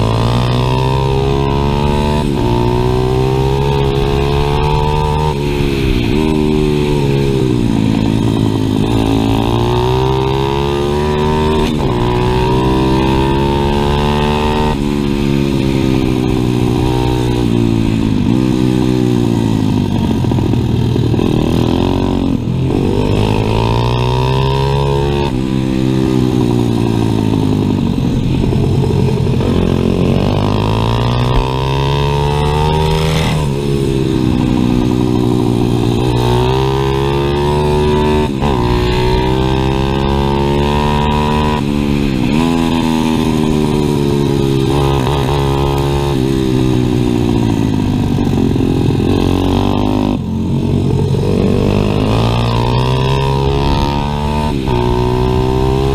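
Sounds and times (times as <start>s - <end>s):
single-cylinder engine revving: 0.0s - 55.9s.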